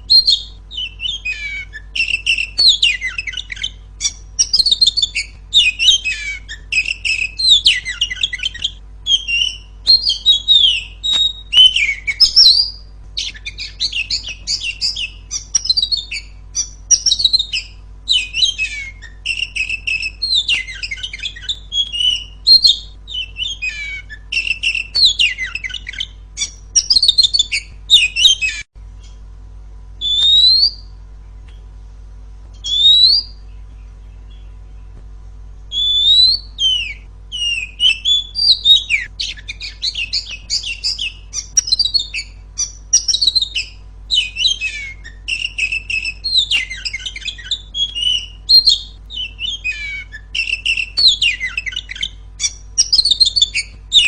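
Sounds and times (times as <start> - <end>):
rising bird whistles: 0.0 - 29.2, 30.0 - 31.0, 32.5 - 34.6, 35.7 - 54.0
bird singing chirps and trills: 0.0 - 29.3, 30.0 - 31.7, 32.5 - 35.0, 35.6 - 54.0.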